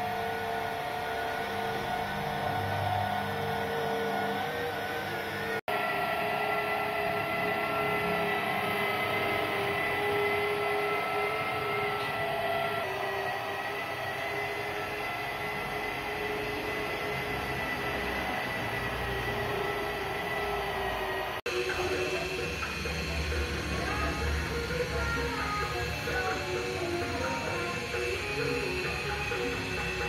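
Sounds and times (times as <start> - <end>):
electric polisher whine: 0.0 - 30.0.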